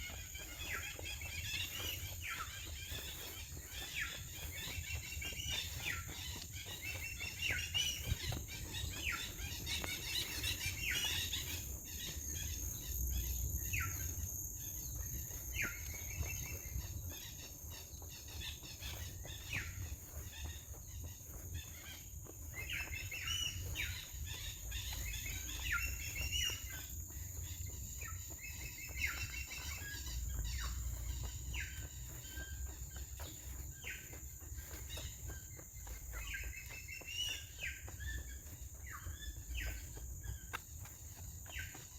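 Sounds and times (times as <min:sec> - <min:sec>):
birds chirping: 0:00.0 - 0:41.9
insects droning: 0:00.0 - 0:41.9.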